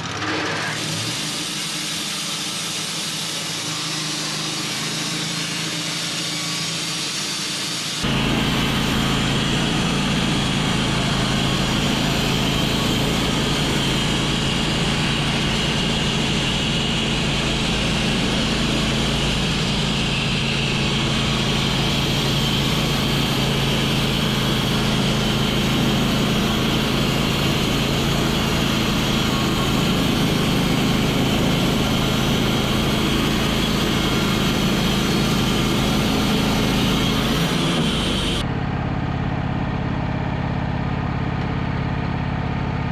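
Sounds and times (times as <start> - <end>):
high whine: 0.0 - 41.5
sawmill engine drone: 0.0 - 42.9.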